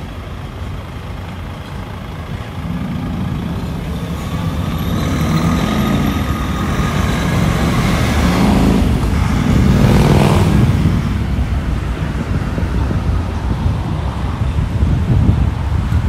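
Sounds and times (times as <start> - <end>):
heavy vehicle engine rumble: 0.0 - 16.0
street traffic: 0.0 - 16.0.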